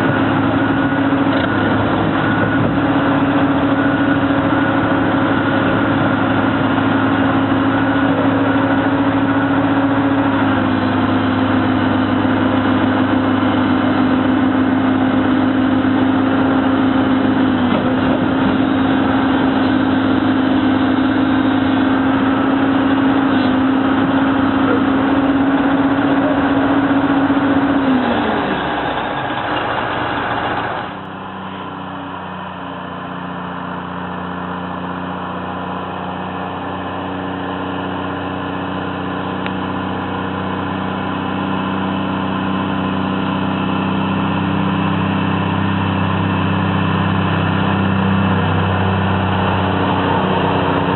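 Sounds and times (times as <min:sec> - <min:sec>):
diesel engine at high revs: 0:00.0 - 0:50.9
distant truck engine drone: 0:00.0 - 0:50.9.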